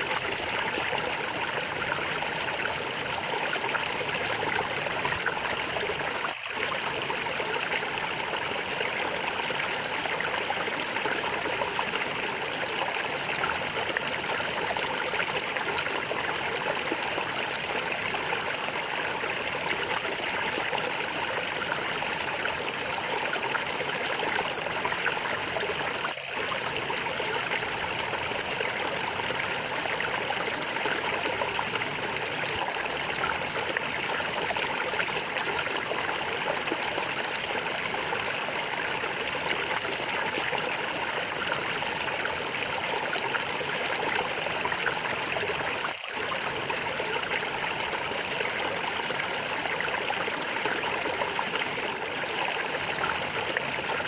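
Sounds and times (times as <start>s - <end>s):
stream flowing and gurgling: 0.0s - 54.0s.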